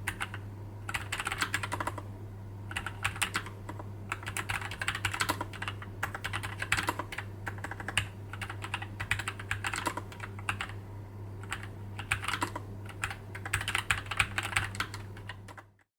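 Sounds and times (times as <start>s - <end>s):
faint low hum: 0.0s - 15.9s
fast typing on mechanical keyboard: 0.1s - 2.1s, 2.7s - 10.8s, 11.4s - 15.9s.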